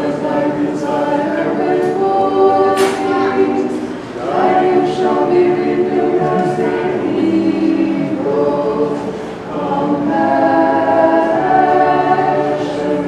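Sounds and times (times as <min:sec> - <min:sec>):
choir singing unaccompanied: 0:00.0 - 0:13.0.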